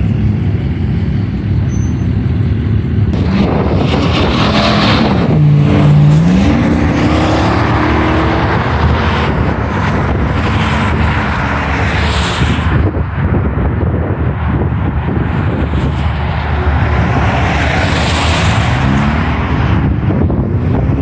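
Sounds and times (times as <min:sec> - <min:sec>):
rushing noise: 0:02.9 - 0:21.0
car engine revving: 0:03.1 - 0:21.0.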